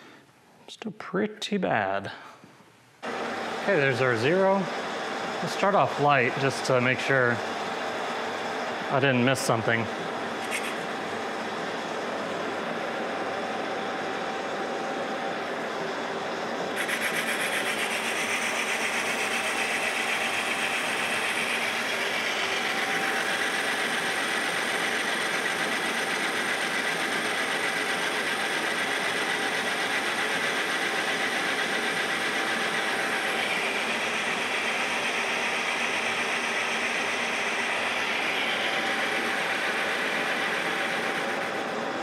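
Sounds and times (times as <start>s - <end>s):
lathe running hum: 3.0s - 42.0s
lathe cutting hiss: 3.1s - 11.9s, 16.7s - 41.8s.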